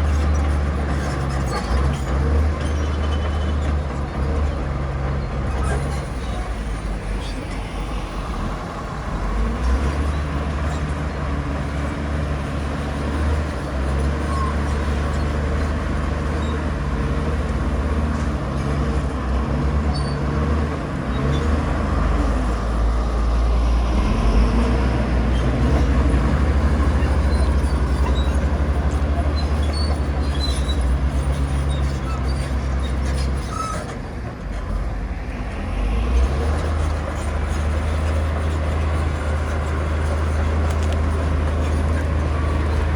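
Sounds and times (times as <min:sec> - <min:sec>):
heavy diesel engine rumbling: 0:00.0 - 0:42.9.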